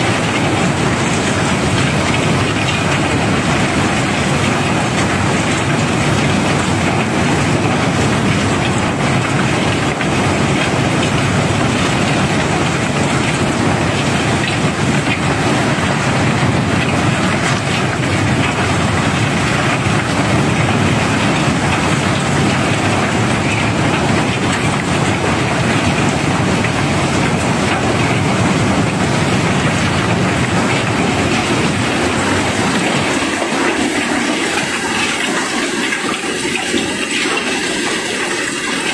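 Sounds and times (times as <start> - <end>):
cobblestones pouring and rattling: 0.0 - 38.9
low machinery drone: 0.0 - 38.9.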